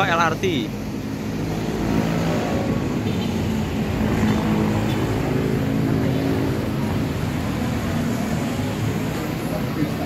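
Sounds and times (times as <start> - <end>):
hum of passing vehicles: 0.0 - 10.0.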